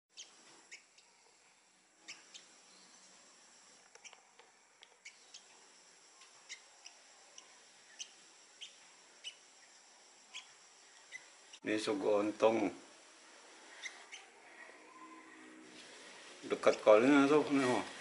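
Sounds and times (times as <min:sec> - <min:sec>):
small bird chirping: 0:00.1 - 0:11.6, 0:13.0 - 0:15.2, 0:16.5 - 0:17.4.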